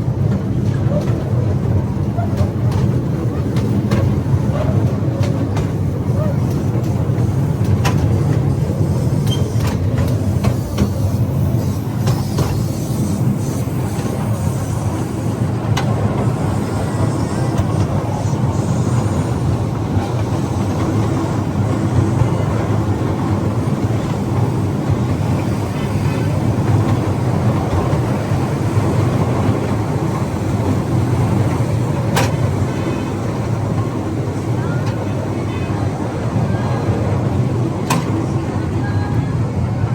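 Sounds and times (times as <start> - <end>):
train rumbling on board: 0.0 - 39.9.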